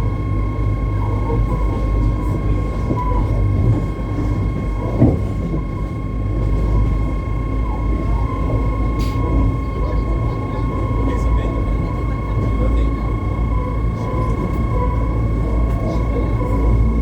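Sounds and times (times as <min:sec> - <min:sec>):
high-pitched whine: 0:00.0 - 0:17.0
train rumble: 0:00.0 - 0:17.0.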